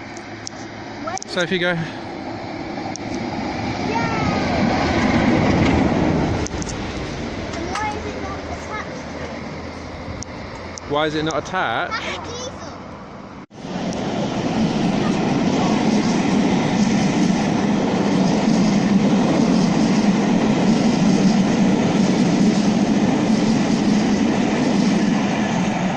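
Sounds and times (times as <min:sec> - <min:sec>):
train wheels rumbling on track: 0:00.0 - 0:25.9.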